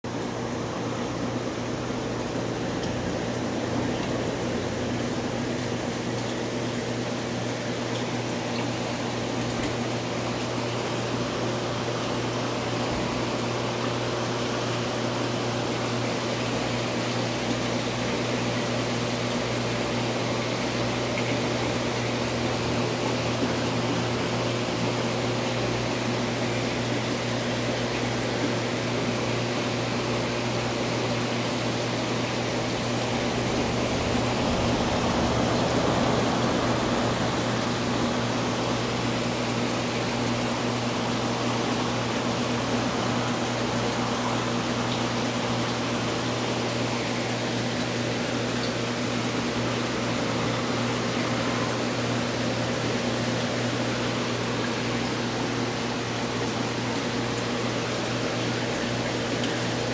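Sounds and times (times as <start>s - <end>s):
machine hum: 0.0s - 59.9s.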